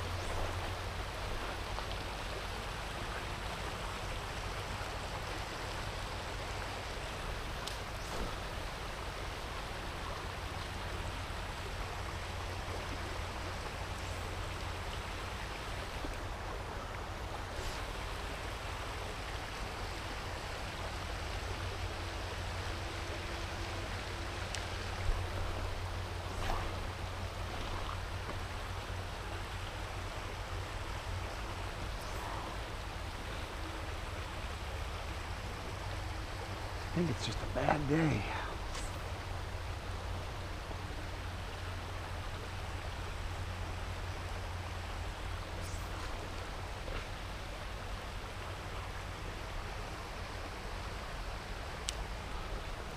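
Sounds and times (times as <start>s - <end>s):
shallow river water flowing: 0.0s - 52.9s.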